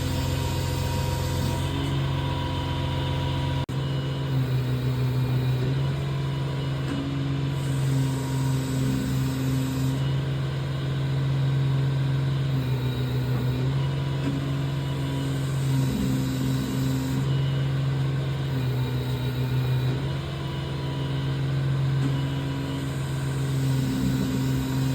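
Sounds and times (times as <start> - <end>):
engine running steadily: 0.0 - 24.9.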